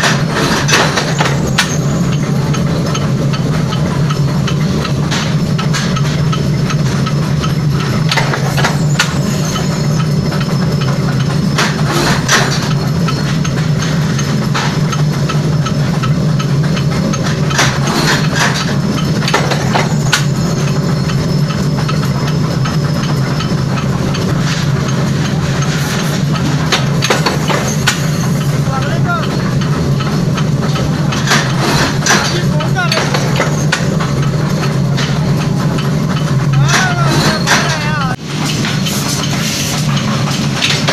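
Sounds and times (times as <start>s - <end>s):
forging machinery drone: 0.0s - 40.9s
metallic clanks and knocks: 0.0s - 40.9s.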